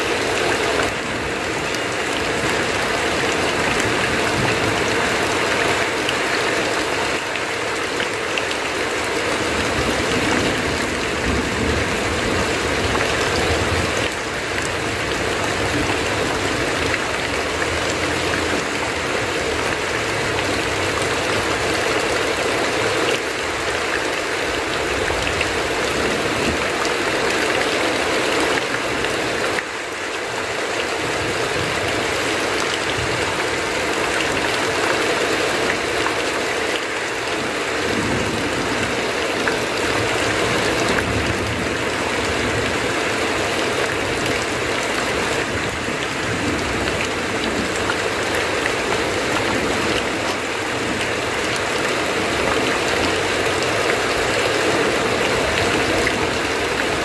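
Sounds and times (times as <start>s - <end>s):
heavy rain on a tin roof: 0.0s - 57.0s
water streaming off roof: 0.0s - 57.0s.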